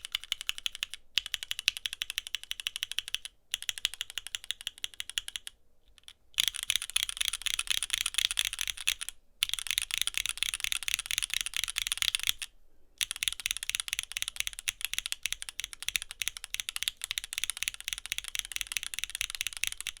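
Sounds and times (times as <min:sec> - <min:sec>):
fast mechanical keyboard typing: 0:00.0 - 0:05.5, 0:06.4 - 0:20.0.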